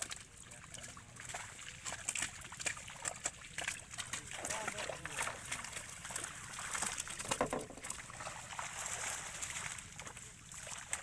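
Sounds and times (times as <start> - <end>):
pond water splashing: 0.0 - 11.0.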